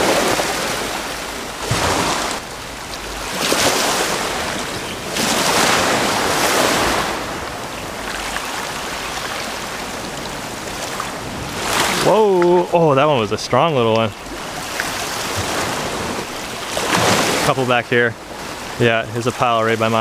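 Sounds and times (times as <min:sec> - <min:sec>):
waves washing over pebbles: 0:00.0 - 0:20.0.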